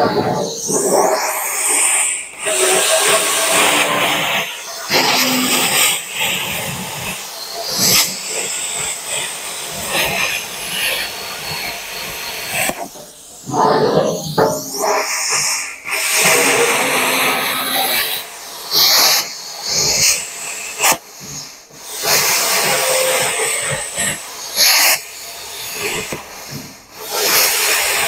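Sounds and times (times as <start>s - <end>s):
plasma cutter hiss: 0.0s - 28.0s.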